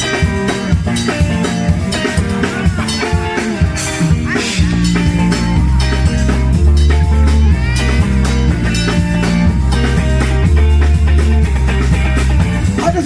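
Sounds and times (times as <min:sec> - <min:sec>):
drums: 0:00.0 - 0:13.0
walking bass line: 0:00.0 - 0:13.0.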